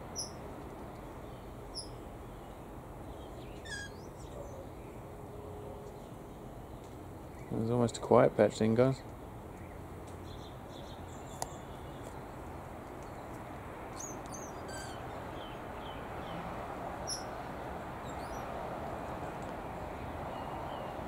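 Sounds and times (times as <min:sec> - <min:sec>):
small birds chirping: 0:00.0 - 0:00.4, 0:01.0 - 0:05.0, 0:05.9 - 0:08.0, 0:09.0 - 0:21.0.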